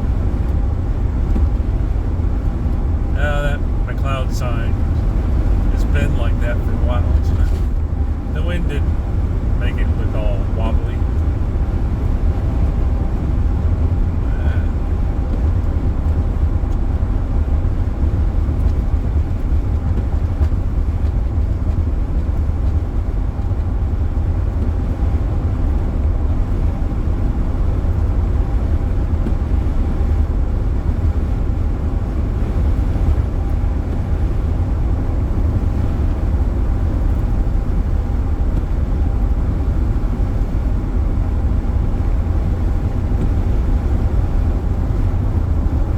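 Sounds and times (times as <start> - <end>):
car cabin road noise: 0.0 - 45.9.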